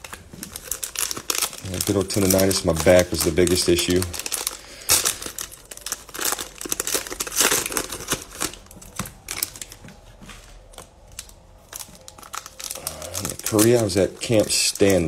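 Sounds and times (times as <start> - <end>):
plastic wrapper tearing and crinkling: 0.0 - 10.1, 10.7 - 15.0.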